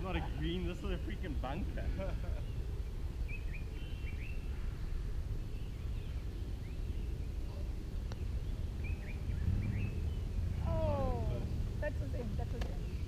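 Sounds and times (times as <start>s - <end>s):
low wind rumble: 0.0s - 13.0s
small birds chirping: 0.0s - 13.0s.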